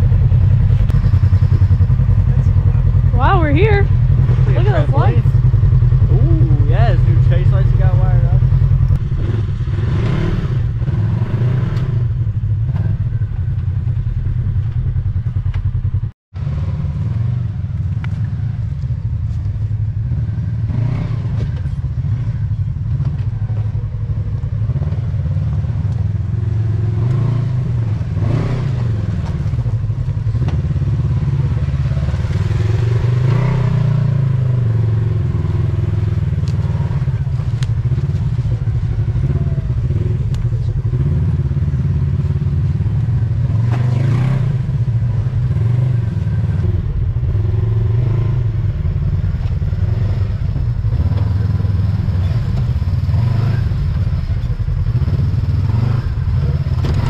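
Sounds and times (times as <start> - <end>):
utility vehicle engine revving: 0.0 - 57.0.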